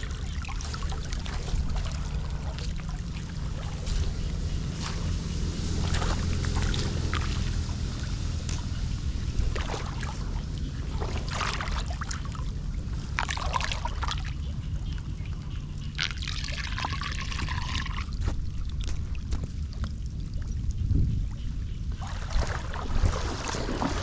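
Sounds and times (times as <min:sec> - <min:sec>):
floodwater gurgling into drain: 0:00.0 - 0:14.4, 0:15.9 - 0:20.6, 0:22.0 - 0:24.0
water splashes: 0:00.0 - 0:24.0.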